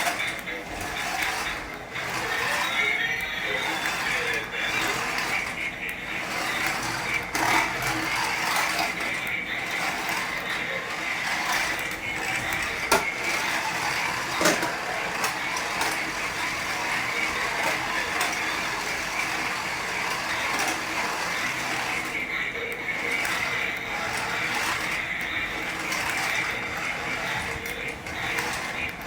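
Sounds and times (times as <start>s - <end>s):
toy motor whirring: 0.0s - 29.0s.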